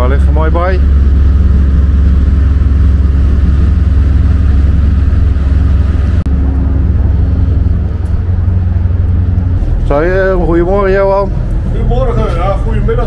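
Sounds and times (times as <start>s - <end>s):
low ship engine drone: 0.0s - 13.0s.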